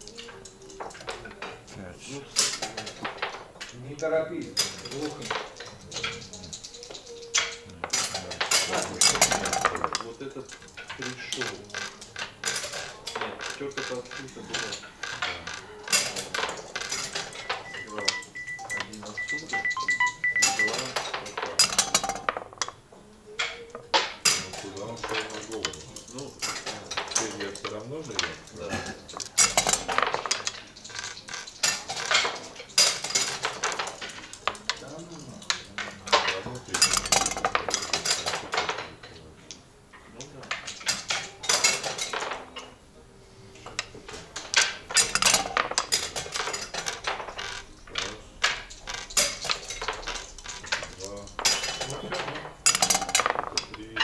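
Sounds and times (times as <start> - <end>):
checkers and dice clicking on board: 0.0 - 22.8, 23.4 - 39.6, 40.3 - 42.7, 43.6 - 54.0.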